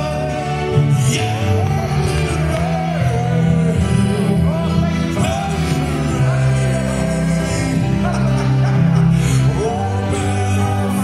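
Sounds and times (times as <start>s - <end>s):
bass: 0.0s - 11.0s
keyboard chords: 0.0s - 11.0s
person singing: 0.0s - 11.0s.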